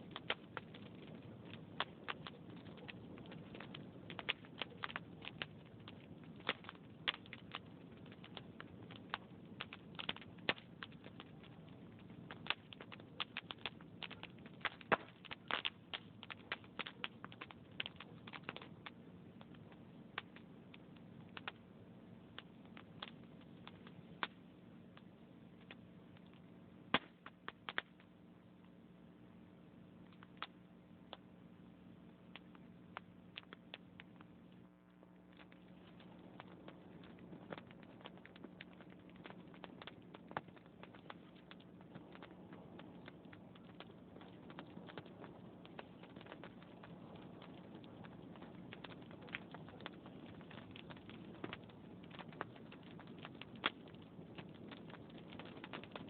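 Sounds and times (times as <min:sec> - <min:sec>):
log fire crackling and popping: 0:00.0 - 0:56.0.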